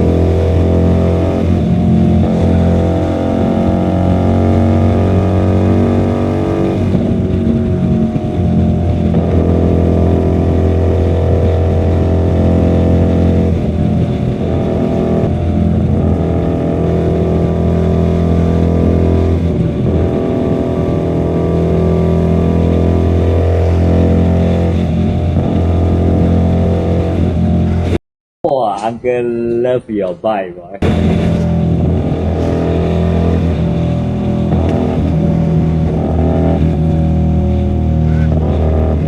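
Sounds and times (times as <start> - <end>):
motorcycle engine running: 0.0 - 28.0, 30.8 - 39.0.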